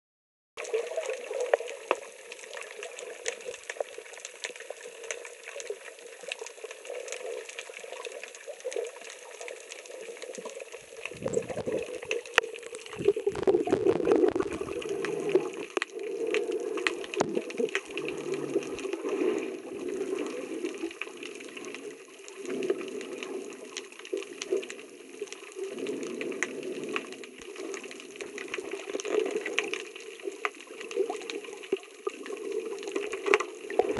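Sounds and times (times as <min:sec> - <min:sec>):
clicks and crackles: 0:00.6 - 0:33.9
muffled underwater rush: 0:06.5 - 0:33.9.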